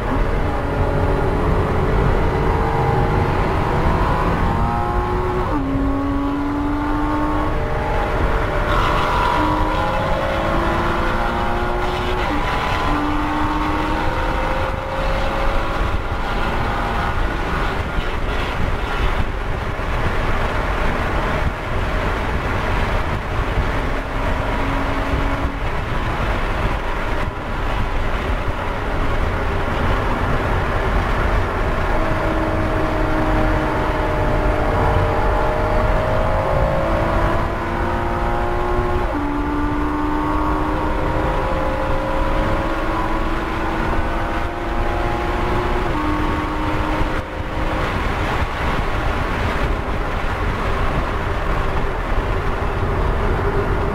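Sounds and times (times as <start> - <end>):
car engine revving: 0.0 - 53.9
wind and tyre noise: 0.0 - 53.9.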